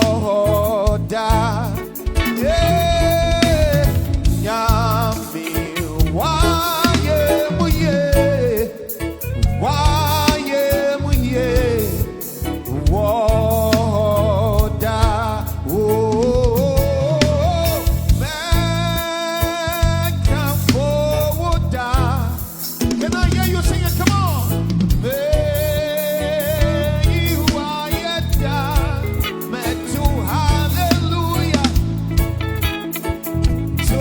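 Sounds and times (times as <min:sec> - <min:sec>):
band with drums bass and guitar: 0:00.0 - 0:34.0.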